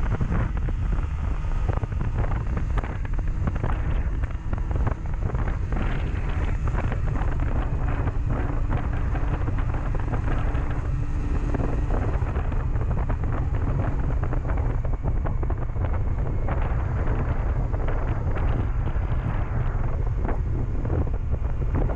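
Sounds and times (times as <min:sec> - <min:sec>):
motorcycle engine running: 0:00.0 - 0:21.9
wind buffeting microphone: 0:00.0 - 0:21.9.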